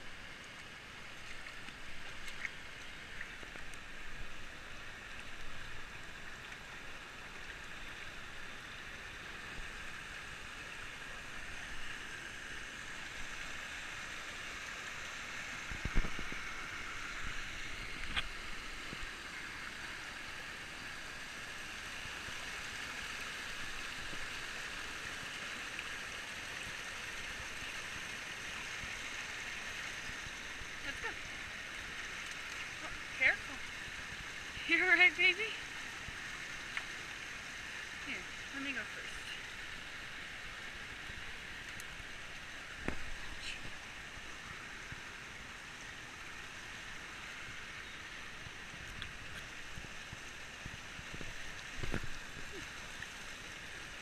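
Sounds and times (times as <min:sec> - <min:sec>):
stream rushing over rapids: 0:00.0 - 0:54.0.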